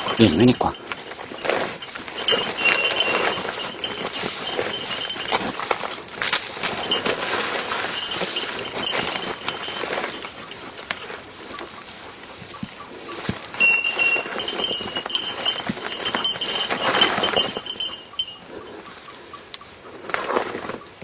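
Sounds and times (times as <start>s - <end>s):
dog collar bell ringing: 0.0s - 11.7s, 13.4s - 19.0s
rustling through undergrowth: 0.0s - 19.4s.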